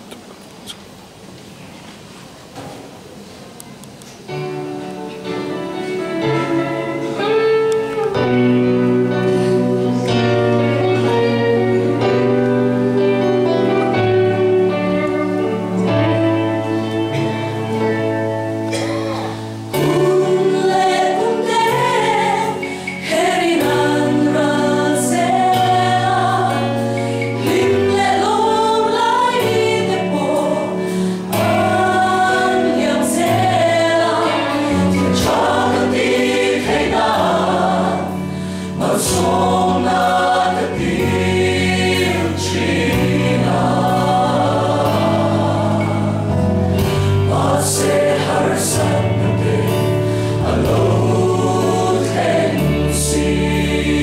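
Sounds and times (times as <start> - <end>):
instrumental accompaniment chords: 4.3 - 54.0
mixed choir singing gospel: 4.7 - 54.0.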